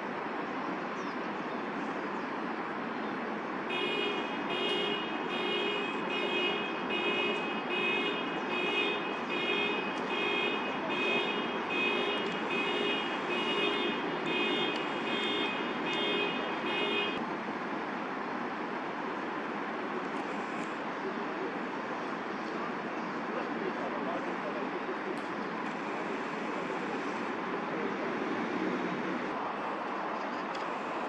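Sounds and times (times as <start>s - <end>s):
city background hiss: 0.0s - 31.0s.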